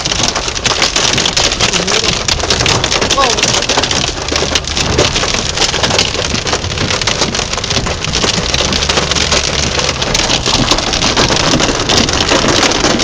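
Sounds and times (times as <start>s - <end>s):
heavy rain on hard surfaces: 0.0s - 13.0s.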